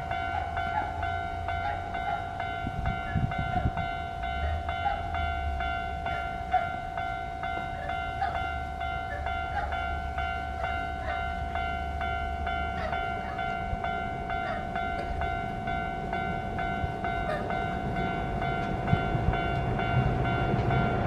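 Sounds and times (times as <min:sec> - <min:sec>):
level crossing warning bell: 0:00.0 - 0:21.0
train rumbling: 0:00.0 - 0:21.0.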